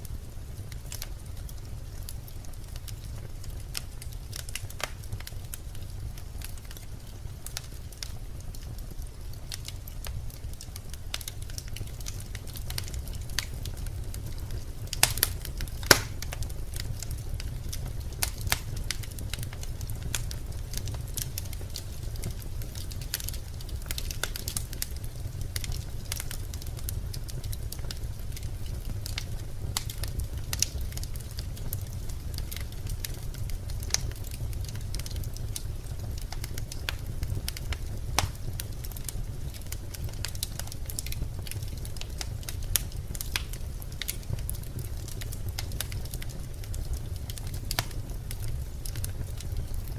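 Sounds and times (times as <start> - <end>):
fire crackles and pops: 0.0 - 49.9
fire rumbling in fireplace: 0.0 - 49.9.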